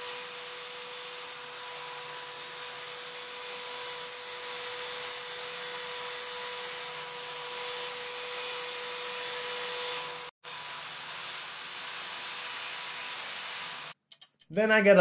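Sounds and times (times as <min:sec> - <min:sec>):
band saw cutting steel: 0:00.0 - 0:14.0.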